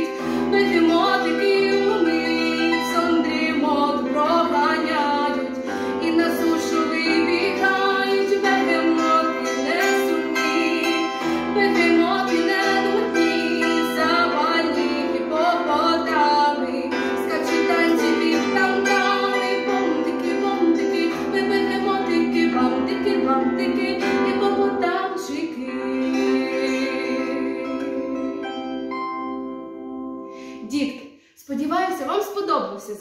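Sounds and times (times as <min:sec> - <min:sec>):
woman singing: 0:00.0 - 0:28.7, 0:30.5 - 0:33.0
plucked bandura strings: 0:00.0 - 0:30.6.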